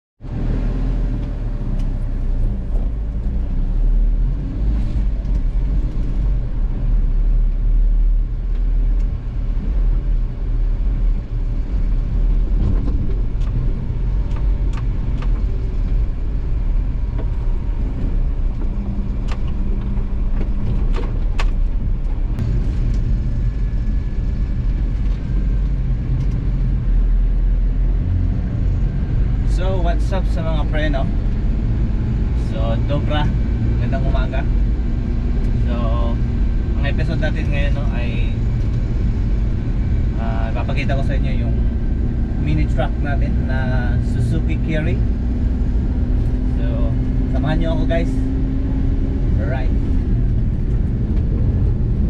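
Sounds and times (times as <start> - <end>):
vehicle engine rumbling: 0.2 - 52.0.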